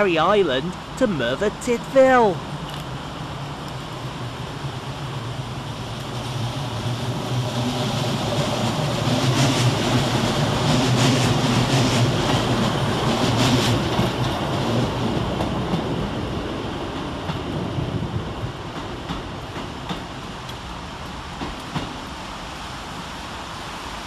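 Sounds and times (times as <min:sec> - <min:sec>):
train wheels rolling on rails: 0:00.6 - 0:24.0.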